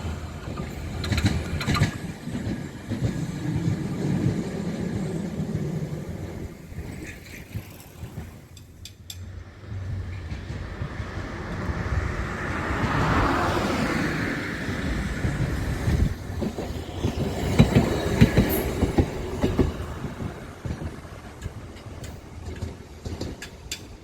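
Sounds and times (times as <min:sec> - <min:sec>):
rail vehicle passing: 0:00.0 - 0:24.0
wheels click-clacking over rail joints: 0:00.0 - 0:24.0.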